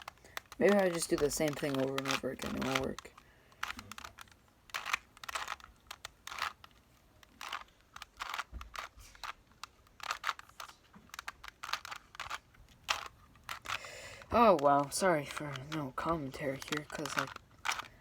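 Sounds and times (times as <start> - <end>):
puzzle cube being twisted: 0.0 - 18.0.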